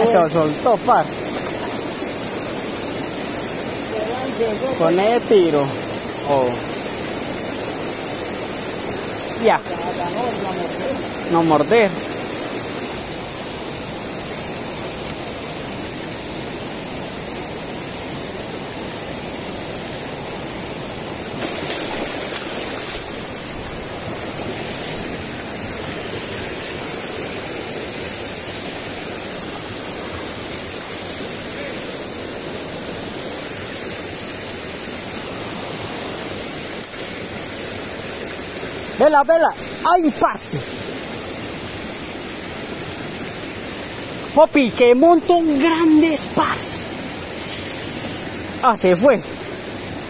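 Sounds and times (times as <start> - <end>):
creek rushing over boulders: 0.0 - 50.0.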